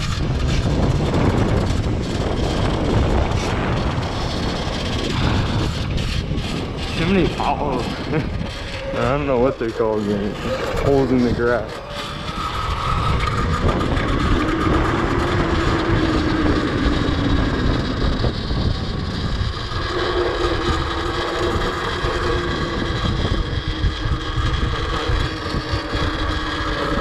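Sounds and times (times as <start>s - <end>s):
electric motor whining: 0.0s - 27.0s
wind rumble on microphone: 0.0s - 27.0s.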